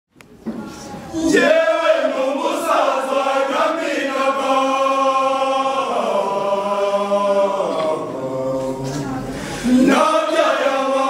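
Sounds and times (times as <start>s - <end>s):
mixed choir singing: 1.1s - 11.0s.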